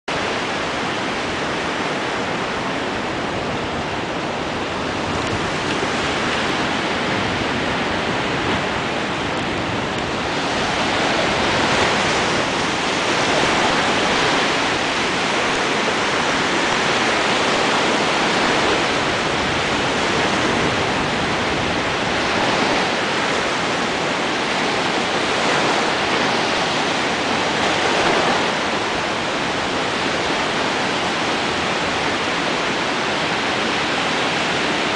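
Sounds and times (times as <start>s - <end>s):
sea waves breaking on rocks: 0.1s - 34.9s.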